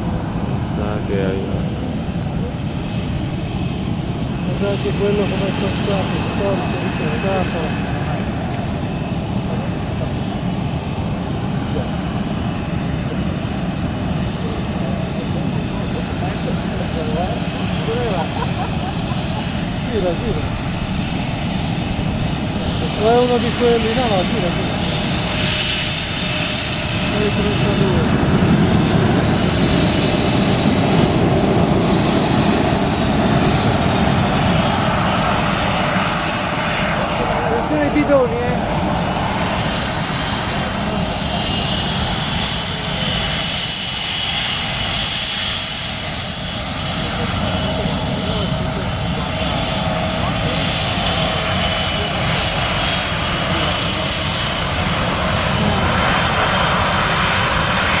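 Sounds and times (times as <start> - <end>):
high jet whine: 0.0 - 58.0
jet engines rumbling: 0.0 - 58.0.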